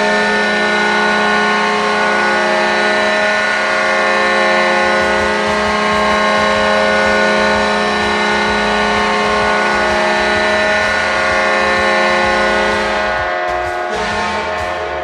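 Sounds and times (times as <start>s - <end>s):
goal horn long tone: 0.0s - 15.0s.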